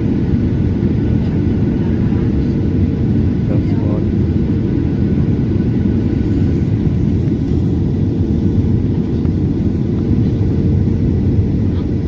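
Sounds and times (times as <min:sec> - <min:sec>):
airplane engine rumble in cabin: 0:00.0 - 0:12.0.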